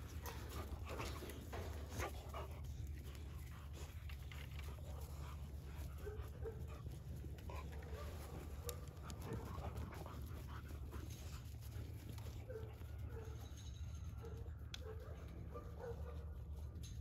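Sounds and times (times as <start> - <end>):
puppies breathing: 0.0 - 14.3.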